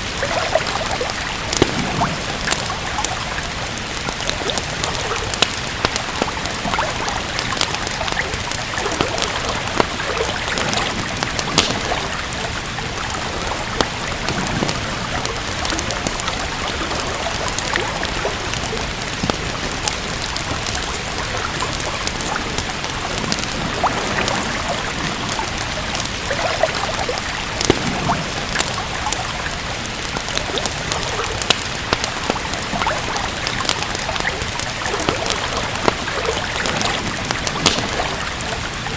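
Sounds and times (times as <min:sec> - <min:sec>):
fireplace fire crackling: 0:00.0 - 0:38.9
steady rain: 0:00.0 - 0:38.9.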